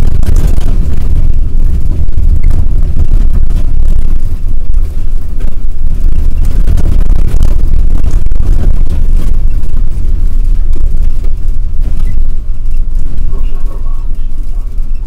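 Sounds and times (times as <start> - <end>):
bus tyres rumbling on cobblestones: 0.0 - 15.0.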